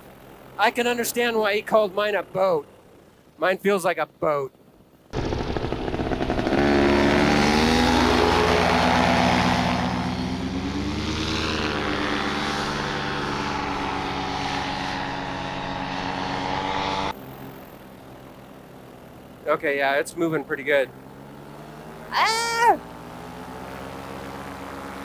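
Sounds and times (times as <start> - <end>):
paramotor engine and propeller: 0.0 - 3.7, 4.5 - 25.0.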